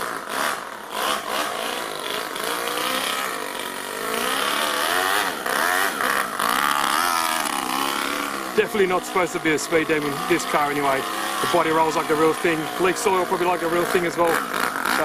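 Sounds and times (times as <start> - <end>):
model engine revving: 0.0 - 15.0.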